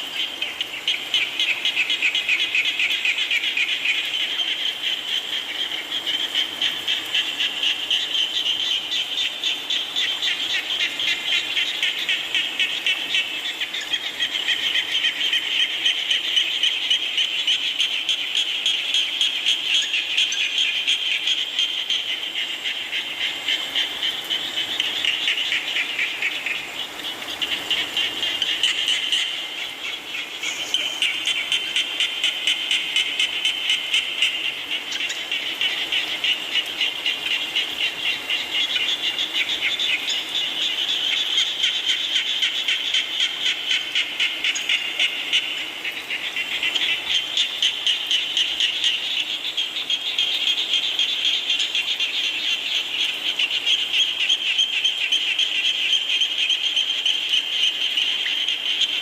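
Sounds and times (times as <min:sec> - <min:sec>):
frogs calling: 0:00.0 - 0:59.0
rain falling: 0:00.0 - 0:59.0.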